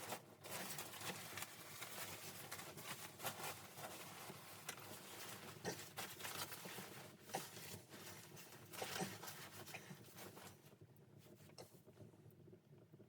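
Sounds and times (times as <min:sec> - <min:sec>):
faint crackles and taps: 0:00.0 - 0:13.0.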